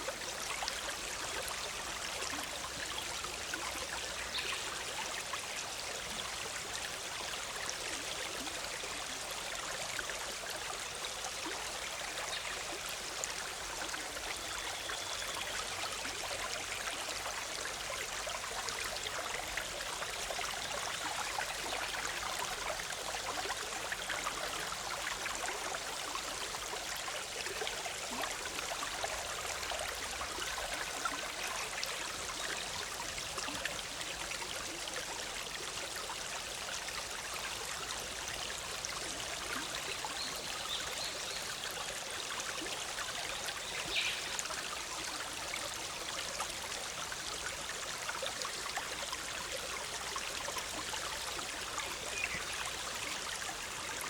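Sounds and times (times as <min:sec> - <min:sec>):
stream bubbling over rocks: 0:00.0 - 0:54.0.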